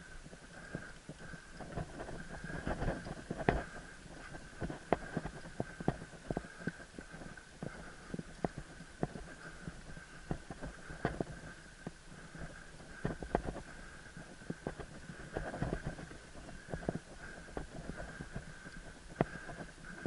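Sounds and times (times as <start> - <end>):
mountain bike rattling: 0.3 - 20.0.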